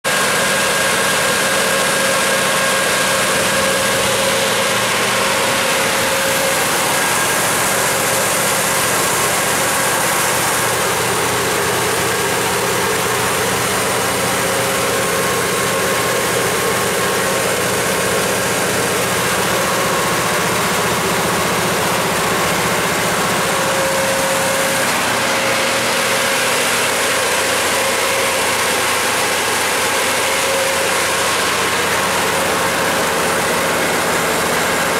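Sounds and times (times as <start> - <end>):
generator engine droning: 0.0 - 34.9.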